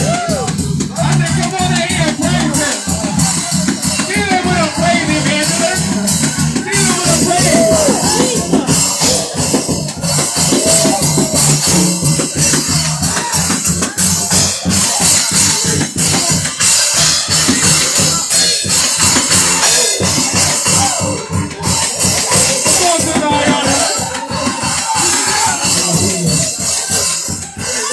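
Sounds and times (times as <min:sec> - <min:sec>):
fast gospel music: 0:00.0 - 0:27.9
shaken percussion: 0:00.0 - 0:27.9.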